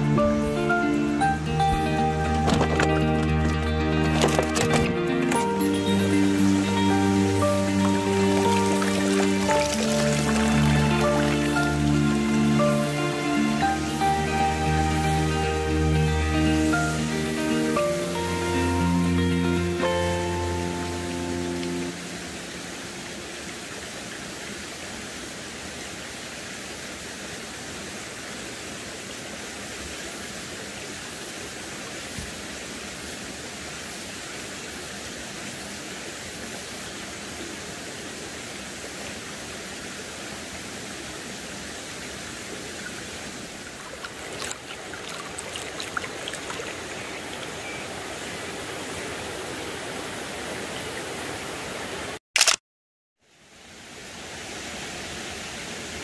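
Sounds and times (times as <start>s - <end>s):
stream running over rocks: 0.0s - 52.2s, 53.3s - 56.0s.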